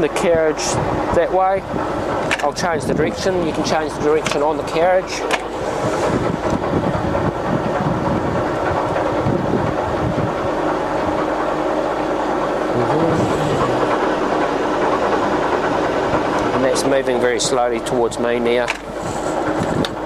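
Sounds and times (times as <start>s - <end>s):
lathe gearing whirring: 0.0s - 20.0s.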